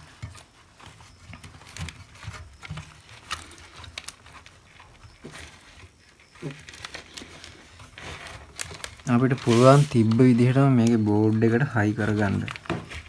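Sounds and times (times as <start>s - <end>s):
plastic parts clicking: 1.3s - 13.0s.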